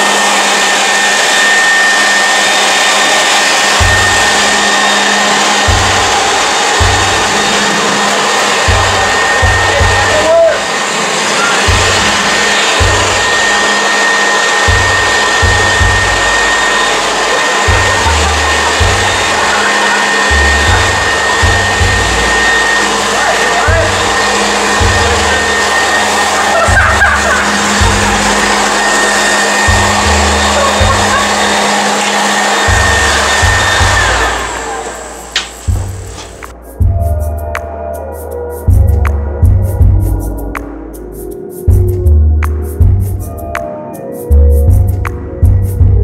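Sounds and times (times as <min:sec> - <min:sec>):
electric leaf blower running: 0:00.0 - 0:37.0.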